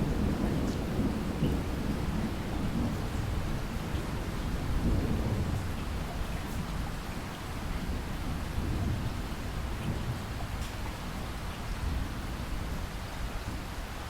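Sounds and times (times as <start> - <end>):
low rumble of thunder: 0.0 - 13.7.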